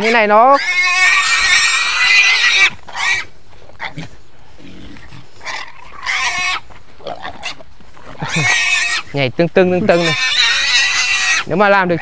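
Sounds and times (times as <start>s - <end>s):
young animal squealing: 0.0s - 12.0s.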